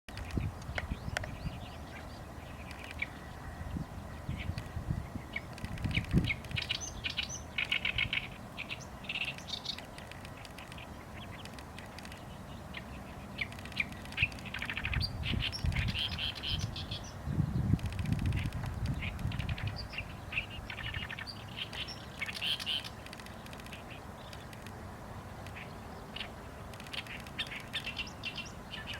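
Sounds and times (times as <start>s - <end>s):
small birds chirping and trilling: 0.1s - 28.9s.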